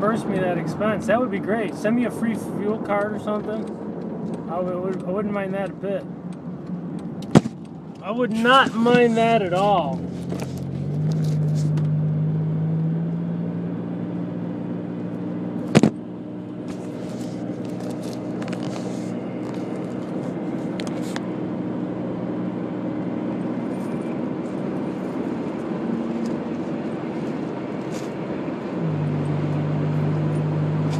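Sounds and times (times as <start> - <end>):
car engine hum: 0.0 - 30.9
tyre and road noise: 0.0 - 30.9.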